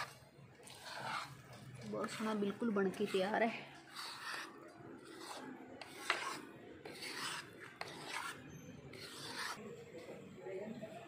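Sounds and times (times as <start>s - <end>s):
metal spoon scraping a steel pan: 0.0s - 9.6s.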